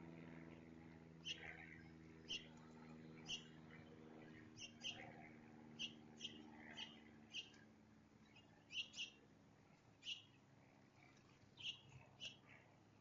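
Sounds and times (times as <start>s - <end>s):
faint low hum: 0.0s - 13.0s
songbirds chirping: 0.5s - 13.0s.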